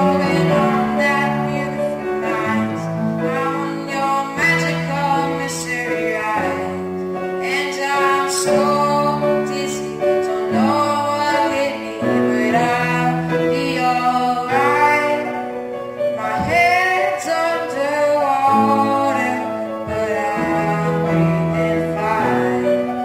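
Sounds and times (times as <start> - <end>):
boy singing: 0.0 - 23.0
piano chords: 0.0 - 23.0.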